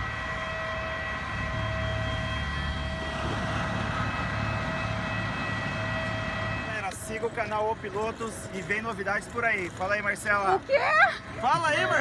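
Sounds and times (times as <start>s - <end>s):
aircraft turbine whining: 0.0s - 12.0s.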